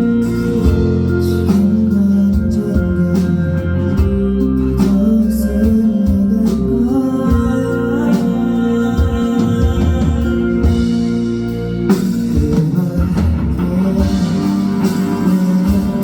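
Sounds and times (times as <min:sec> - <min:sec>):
bass line: 0:00.0 - 0:16.0
drums: 0:00.0 - 0:16.0
guitars: 0:00.0 - 0:16.0.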